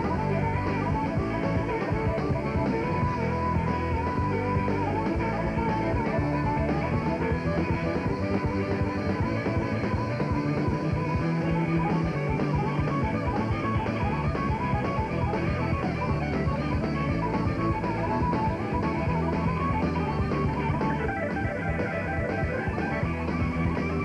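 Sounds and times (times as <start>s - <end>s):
blues-rock band playing: 0.0s - 24.0s
harmonica lead: 0.0s - 24.0s.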